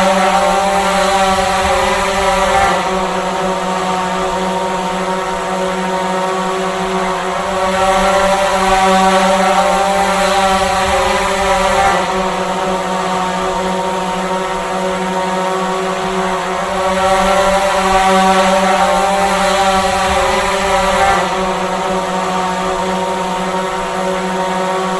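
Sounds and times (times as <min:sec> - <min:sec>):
drone propellers buzzing: 0:00.0 - 0:24.9.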